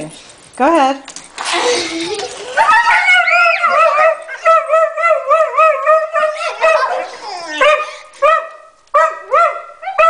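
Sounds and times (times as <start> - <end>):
dogs yelping: 1.6 - 10.0.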